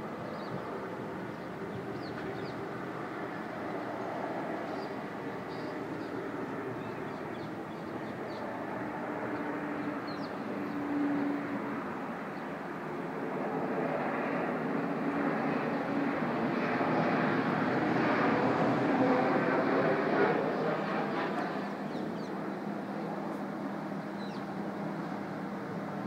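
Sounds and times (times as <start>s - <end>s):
jet airliner engine rush: 0.0s - 26.0s.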